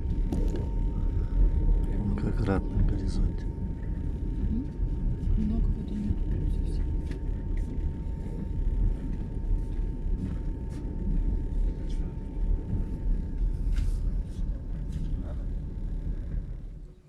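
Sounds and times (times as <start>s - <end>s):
train rumbling: 0.0s - 16.9s
faint steady whine: 0.0s - 17.0s.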